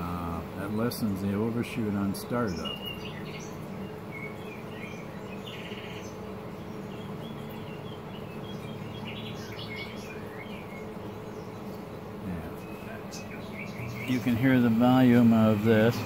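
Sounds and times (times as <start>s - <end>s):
birds chirping: 0.0s - 16.0s
grill fan humming: 0.0s - 16.0s.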